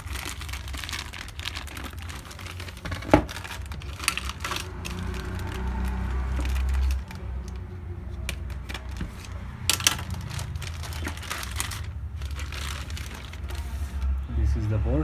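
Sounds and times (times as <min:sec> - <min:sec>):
plastic bag crinkling: 0:00.0 - 0:14.1.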